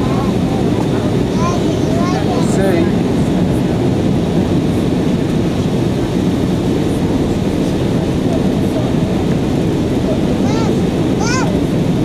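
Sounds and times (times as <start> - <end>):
airliner cabin engine roar: 0.0 - 12.0.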